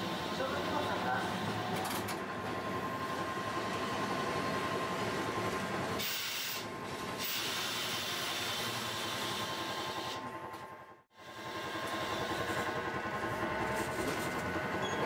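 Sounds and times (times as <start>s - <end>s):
tram wheels rumbling: 0.0s - 15.0s.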